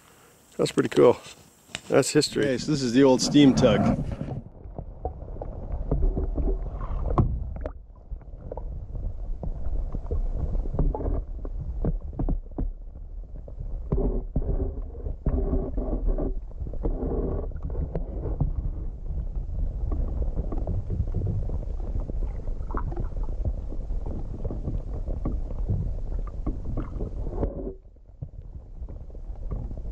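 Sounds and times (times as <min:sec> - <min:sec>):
underwater rumble of water: 0:02.2 - 0:29.9
underwater clicks and knocks: 0:04.1 - 0:29.9.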